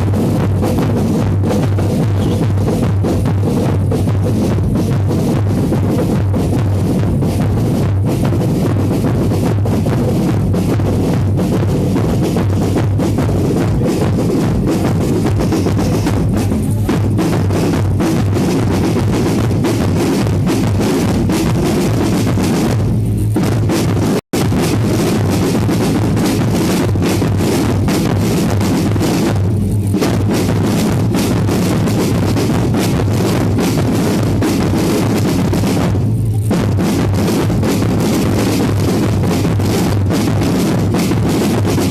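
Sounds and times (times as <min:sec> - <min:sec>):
bass drum and snare: 0:00.0 - 0:41.9
live band playing loud music: 0:00.0 - 0:41.9.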